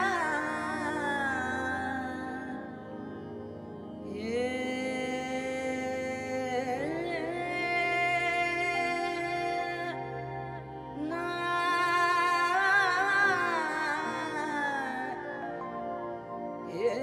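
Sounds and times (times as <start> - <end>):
person singing long wavering notes: 0.0 - 17.0.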